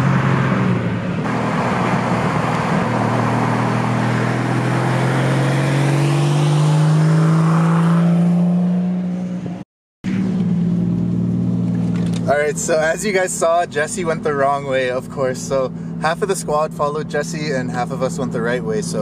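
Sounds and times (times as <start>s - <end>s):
car engine accelerating: 0.0s - 17.1s.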